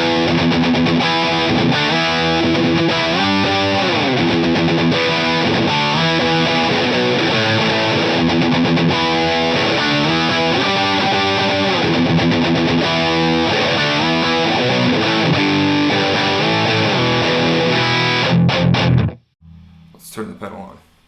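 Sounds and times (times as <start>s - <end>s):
distorted electric guitar riff: 0.0s - 19.9s.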